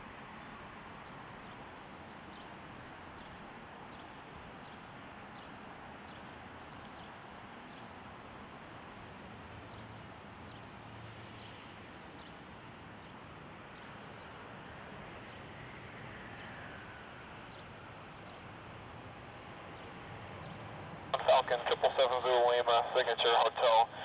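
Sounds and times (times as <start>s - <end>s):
distant jet taxiing: 1.0s - 24.0s.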